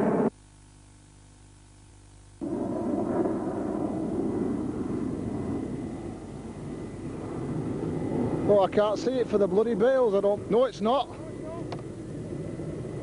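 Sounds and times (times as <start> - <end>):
faint steady hum: 0.0 - 13.0
rushing outdoor noise: 2.4 - 13.0.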